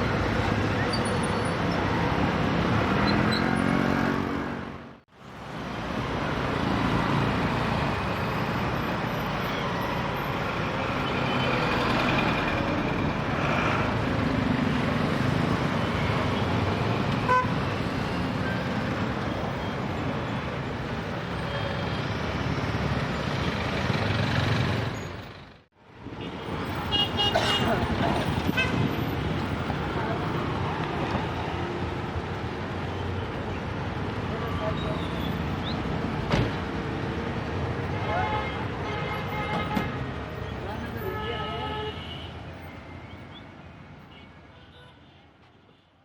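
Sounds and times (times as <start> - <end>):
road traffic engines: 0.0 - 46.0.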